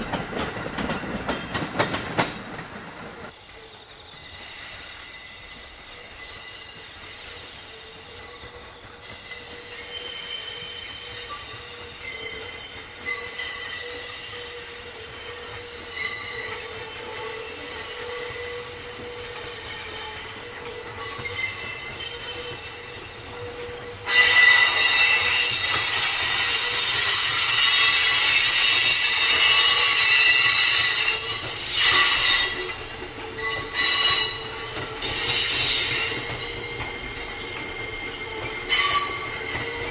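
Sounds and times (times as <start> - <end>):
train wheels squealing: 0.0 - 39.9.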